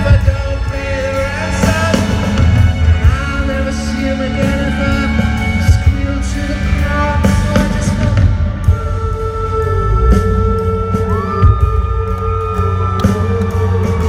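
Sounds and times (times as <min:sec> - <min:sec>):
man singing: 0:00.0 - 0:14.0
rock band playing live: 0:00.0 - 0:14.0.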